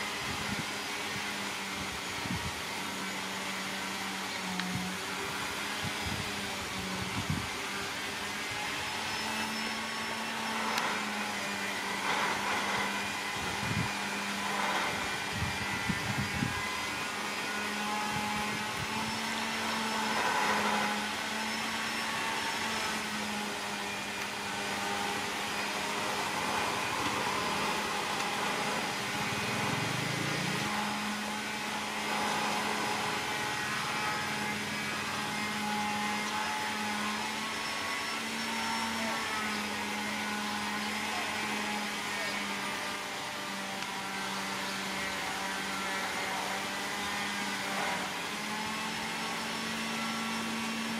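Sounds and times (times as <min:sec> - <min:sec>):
faint high whine: 0:00.0 - 0:45.1
motor humming: 0:00.0 - 0:50.9.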